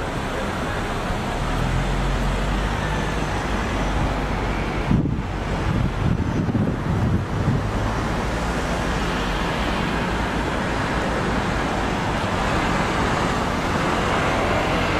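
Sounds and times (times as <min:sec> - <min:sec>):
steady rushing outdoor noise: 0:00.0 - 0:14.9.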